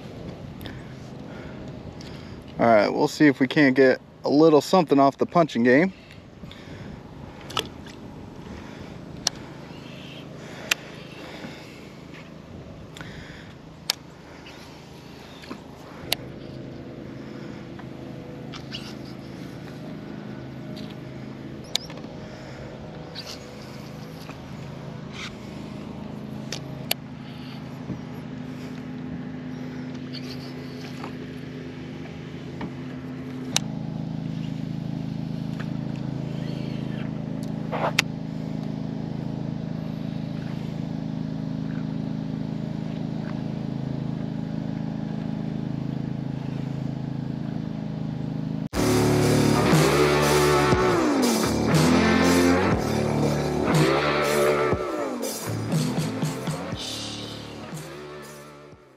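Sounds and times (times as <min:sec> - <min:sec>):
boat motor running: 0:00.0 - 0:58.9.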